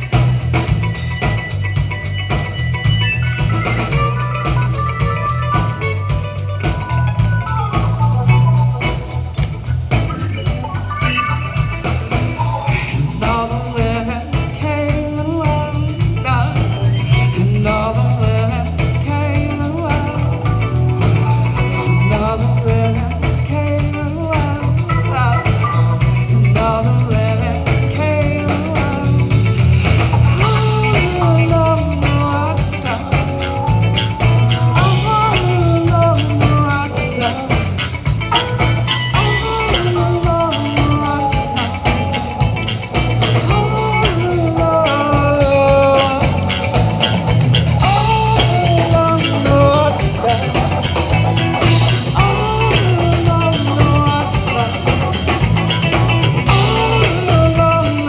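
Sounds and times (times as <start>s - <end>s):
drum kit: 0.0s - 58.0s
electric bass: 0.0s - 58.0s
electric guitar: 0.0s - 58.0s
keyboard: 0.0s - 58.0s.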